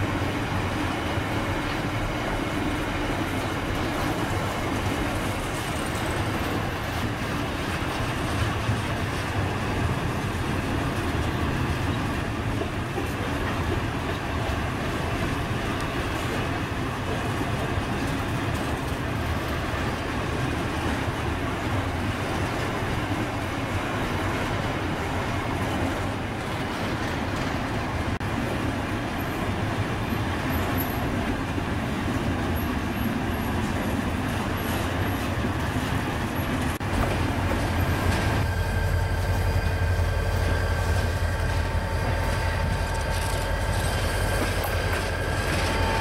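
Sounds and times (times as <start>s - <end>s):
freight train rolling on rails: 0.0s - 46.0s.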